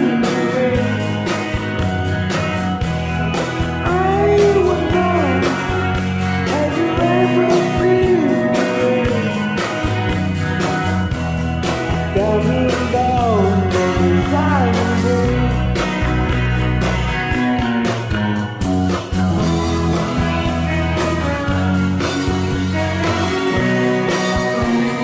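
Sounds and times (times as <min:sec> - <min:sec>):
bending guitar lead line: 0:00.0 - 0:25.0
rock song with guitars and drums: 0:00.0 - 0:25.0.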